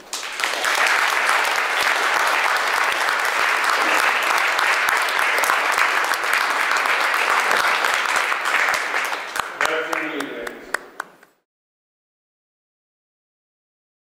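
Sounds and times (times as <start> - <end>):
audience applause: 0.0 - 11.4.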